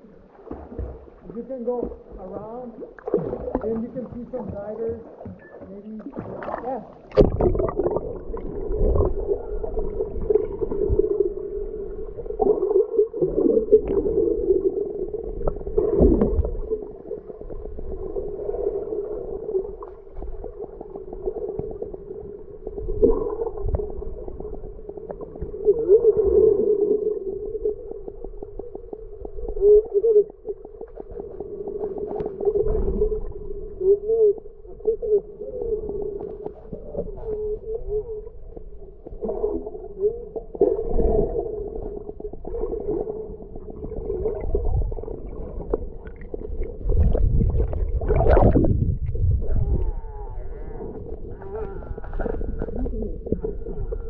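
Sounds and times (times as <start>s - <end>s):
underwater low hum: 0.0s - 54.0s
water movement: 0.0s - 54.0s.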